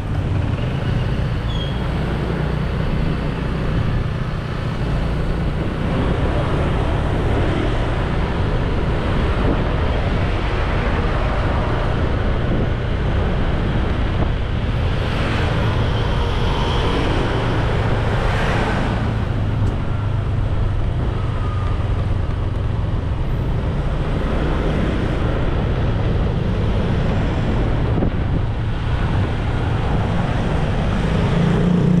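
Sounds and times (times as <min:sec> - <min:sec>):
wind on microphone: 0:02.0 - 0:32.0.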